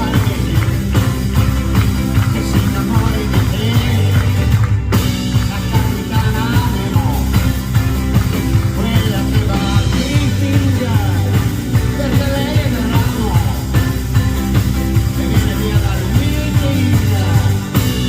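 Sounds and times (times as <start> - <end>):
live band playing instrumental: 0.0 - 18.0.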